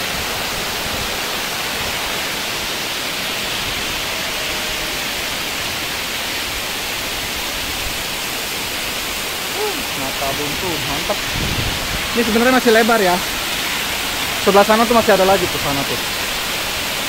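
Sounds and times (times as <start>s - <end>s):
waterfall: 0.0s - 17.0s.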